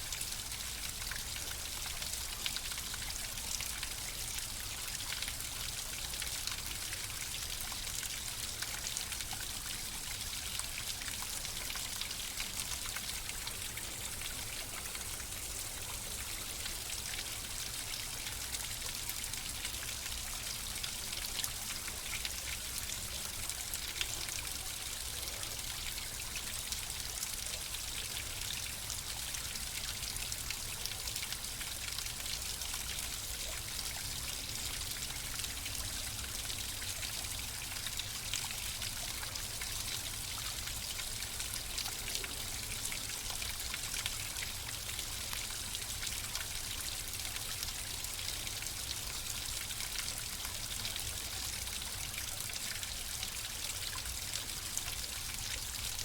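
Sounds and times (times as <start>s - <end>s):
trickling stream: 0.0s - 56.0s.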